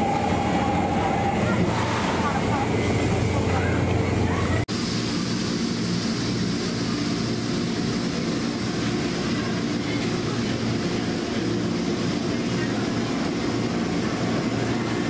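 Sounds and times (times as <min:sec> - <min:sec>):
electric train equipment drone: 0:00.0 - 0:15.0.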